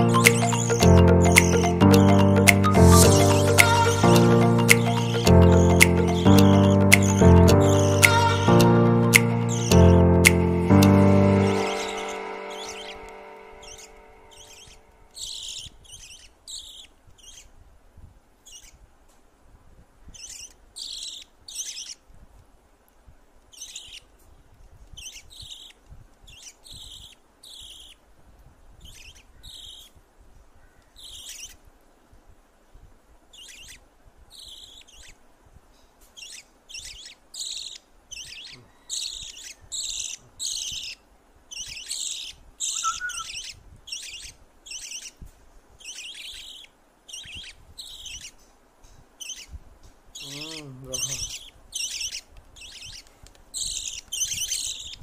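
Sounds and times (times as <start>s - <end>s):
budgie chicks chirping: 0.0s - 17.5s, 18.4s - 18.8s, 20.1s - 22.0s, 23.5s - 24.1s, 25.0s - 28.0s, 28.8s - 29.9s, 31.0s - 31.6s, 33.3s - 35.2s, 36.2s - 48.4s, 49.2s - 55.0s.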